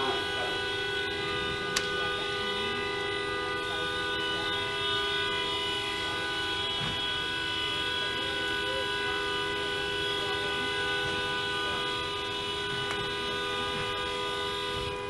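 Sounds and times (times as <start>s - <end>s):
vehicle horn chord: 0.0s - 15.0s.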